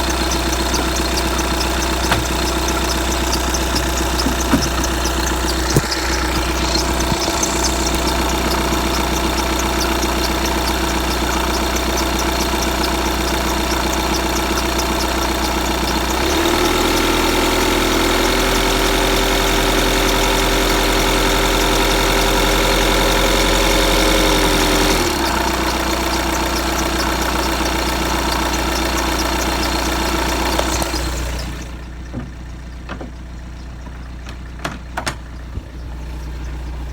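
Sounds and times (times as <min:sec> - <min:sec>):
diesel engine idling: 0:00.0 - 0:36.9
steady squeak: 0:00.0 - 0:36.9.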